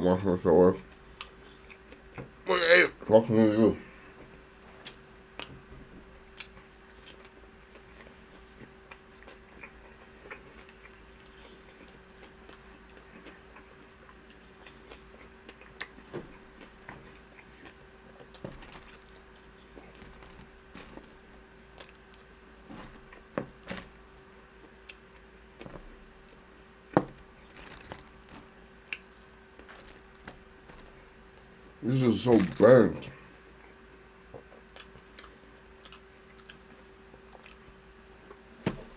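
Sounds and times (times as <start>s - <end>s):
faint steady hum: 0.0s - 38.9s
person chewing crunchy food: 0.9s - 2.9s, 6.3s - 31.1s, 33.6s - 38.9s.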